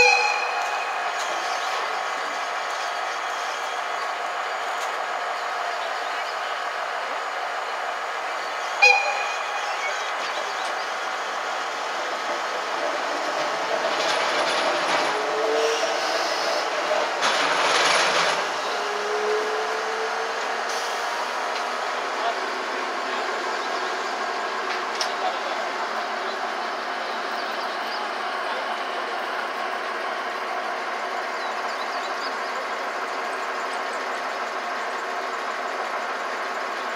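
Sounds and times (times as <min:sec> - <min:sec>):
electric locomotive humming: 0:00.0 - 0:36.9.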